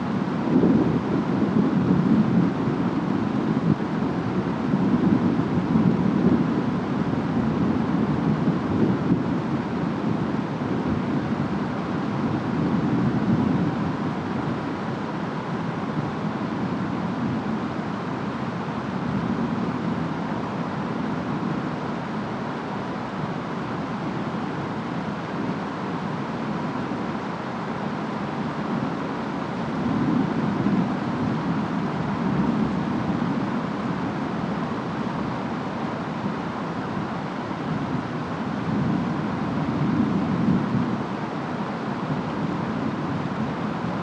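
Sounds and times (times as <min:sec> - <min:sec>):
steady rain: 0:00.0 - 0:44.0
wind: 0:00.0 - 0:44.0.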